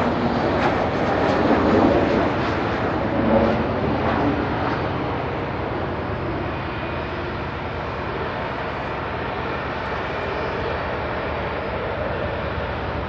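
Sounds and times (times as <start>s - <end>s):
distant jet engine rumble: 0.0s - 13.0s.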